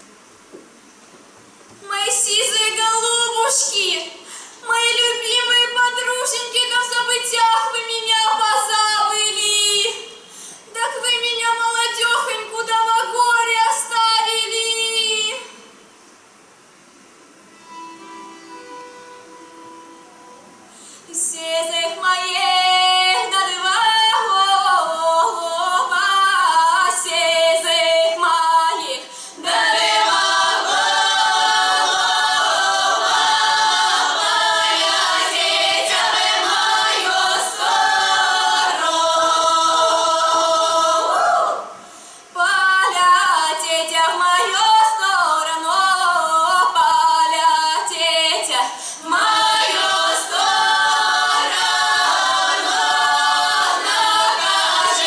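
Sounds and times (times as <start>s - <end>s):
women singing a cappella: 1.8s - 15.6s, 21.0s - 55.0s.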